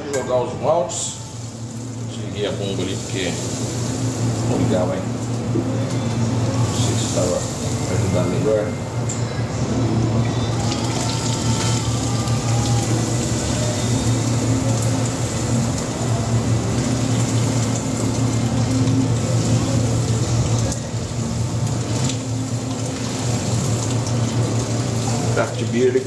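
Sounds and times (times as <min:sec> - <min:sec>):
pump humming: 0:00.0 - 0:26.0.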